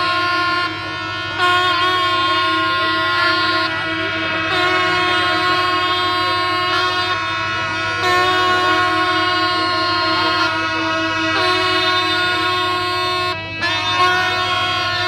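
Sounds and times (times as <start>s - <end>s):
brass horns blowing long notes: 0.0s - 15.0s.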